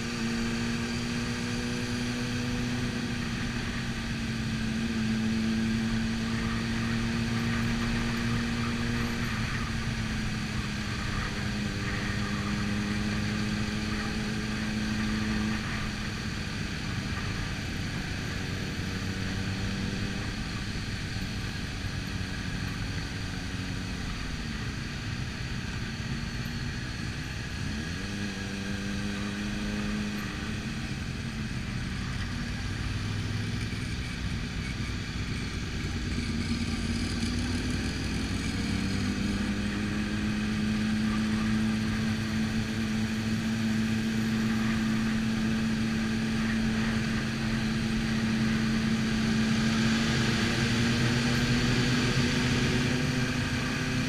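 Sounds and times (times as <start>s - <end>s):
motorcycle engine running: 0.0s - 54.0s
other motorcycles: 0.0s - 54.0s.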